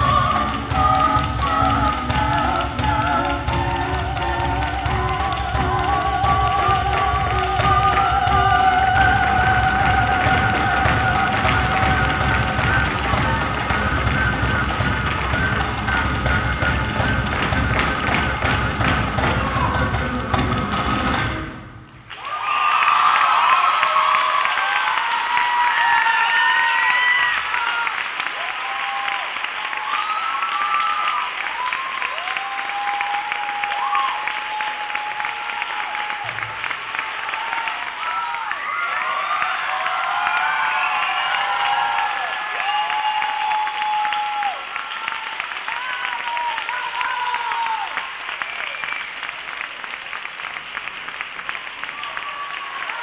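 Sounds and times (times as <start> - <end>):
audience applauding: 0.0 - 21.3, 22.0 - 53.0.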